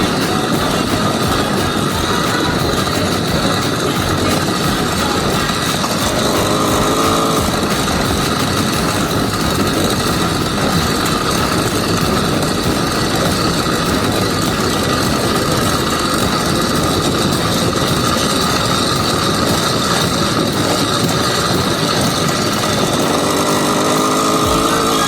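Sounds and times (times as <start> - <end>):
dense noise: 0.0 - 25.0
two-stroke engine revving: 0.0 - 25.0.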